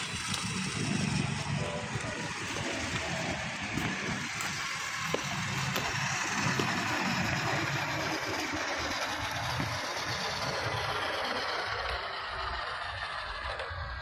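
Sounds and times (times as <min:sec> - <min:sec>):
toy truck electric motor and gears: 0:00.0 - 0:14.0.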